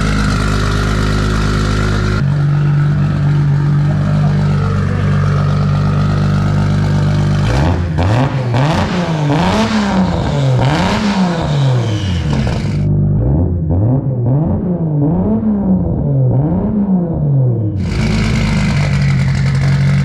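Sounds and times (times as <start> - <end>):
car engine idling: 0.0 - 13.8, 17.8 - 20.0
engine throttle blips: 0.0 - 20.0.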